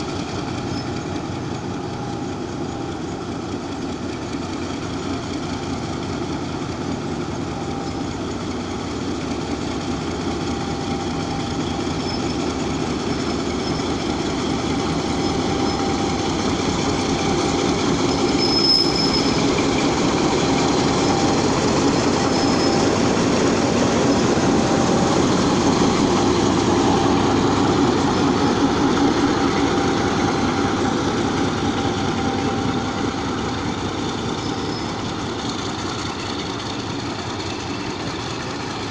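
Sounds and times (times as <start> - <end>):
faint wheel squeal: 0.0 - 3.2, 7.2 - 27.4, 29.7 - 38.8
train carriages rumbling on track: 0.0 - 38.9.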